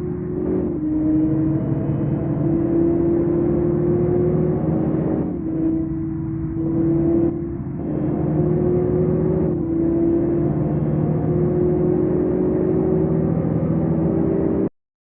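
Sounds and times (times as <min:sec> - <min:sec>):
sports car engine running: 0:00.0 - 0:14.7.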